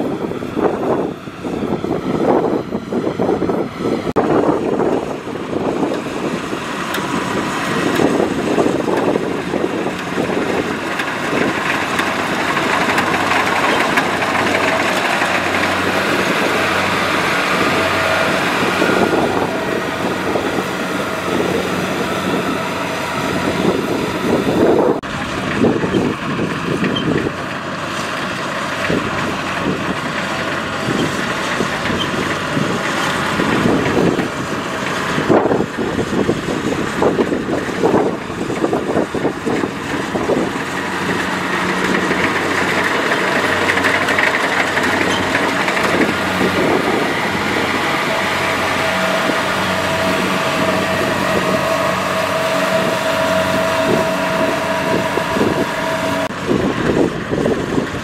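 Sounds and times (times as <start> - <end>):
cutter and threshing gear noise: 0.0 - 58.0
diesel engine drone: 0.0 - 58.0.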